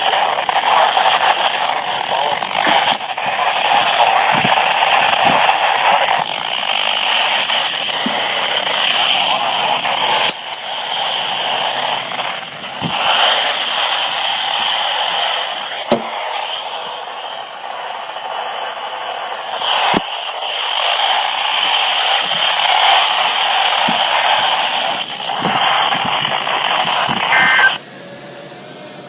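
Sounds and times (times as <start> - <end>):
radio static hiss: 0.0 - 27.8
static crackles and pops: 0.0 - 27.8.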